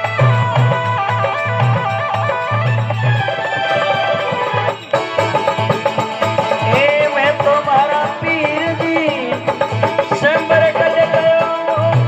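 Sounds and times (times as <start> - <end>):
folk melody: 0.0 - 12.0
steady drum beat: 0.0 - 12.0.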